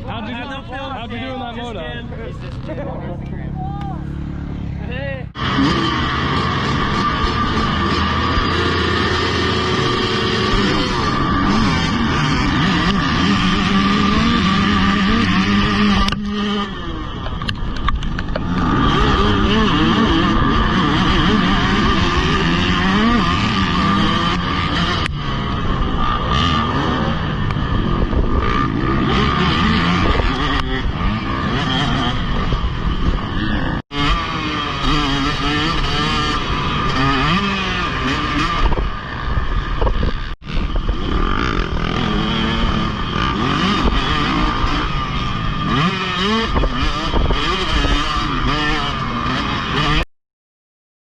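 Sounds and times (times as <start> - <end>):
dirt bike engine revving: 0.0 - 50.1.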